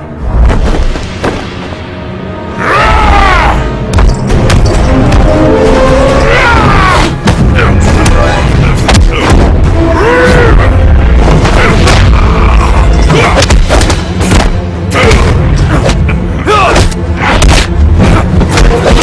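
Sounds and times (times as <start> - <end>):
dramatic music: 0.0 - 19.0.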